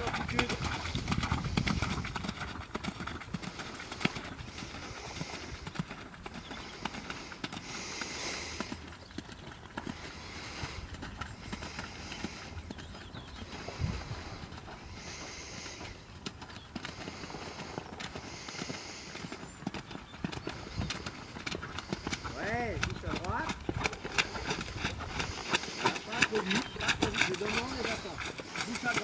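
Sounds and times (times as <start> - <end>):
horse hoofbeats on sand: 0.0 - 29.0.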